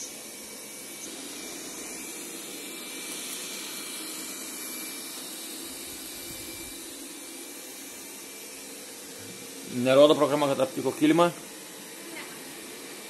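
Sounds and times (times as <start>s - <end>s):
robot vacuum suction noise: 0.0s - 13.0s.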